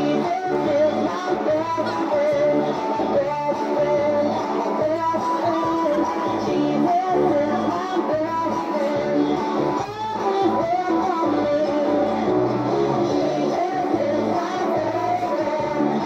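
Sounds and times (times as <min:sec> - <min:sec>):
girls singing: 0:00.0 - 0:12.0, 0:13.0 - 0:16.0.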